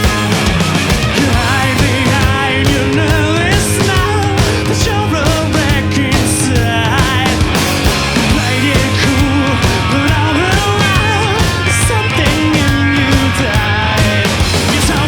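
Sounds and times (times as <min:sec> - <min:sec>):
wavering lead melody: 0:00.0 - 0:13.8
live rock band playing: 0:00.0 - 0:15.0.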